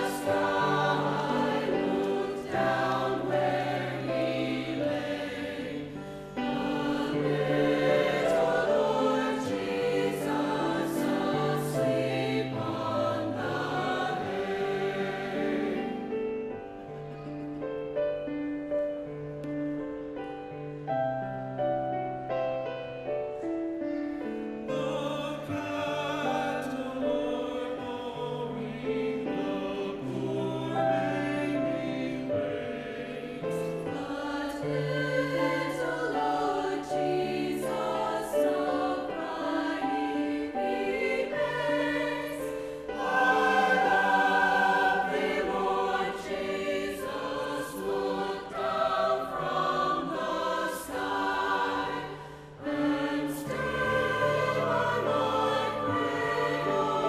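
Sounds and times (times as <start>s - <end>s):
choir singing: 0.0s - 18.4s, 24.3s - 57.0s
piano accompaniment: 0.0s - 57.0s.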